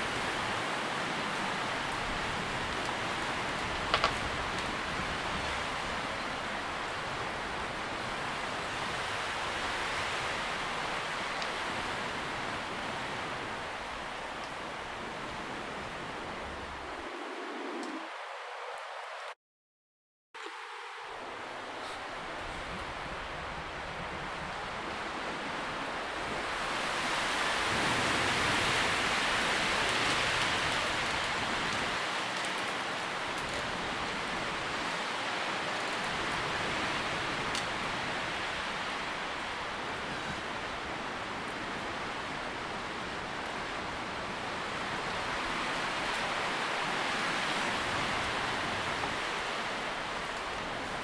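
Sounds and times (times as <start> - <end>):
tree leaves rustling in wind: 0.0 - 19.4, 20.4 - 51.0.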